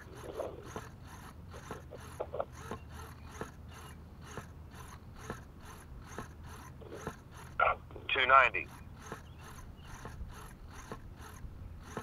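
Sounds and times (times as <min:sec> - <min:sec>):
servos buzzing and clicking: 0:00.0 - 0:12.0.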